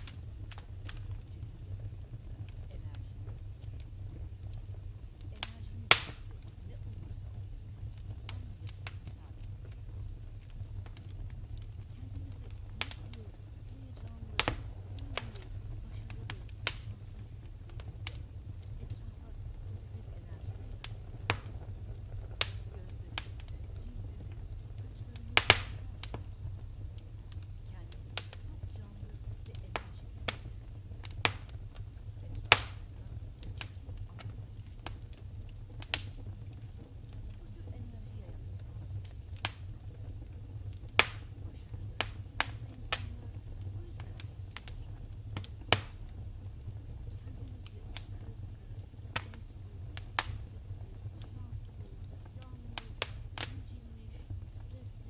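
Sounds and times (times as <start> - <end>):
low rumble of flames: 0.0 - 55.0
wood fire crackling: 0.0 - 55.0.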